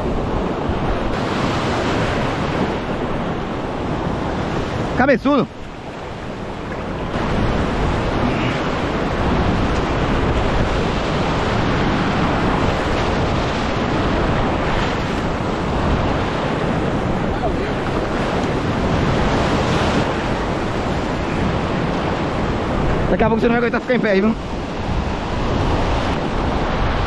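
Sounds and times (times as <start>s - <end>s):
ocean surf breaking over rocks: 0.0s - 27.0s
wind buffeting microphone: 0.0s - 27.0s.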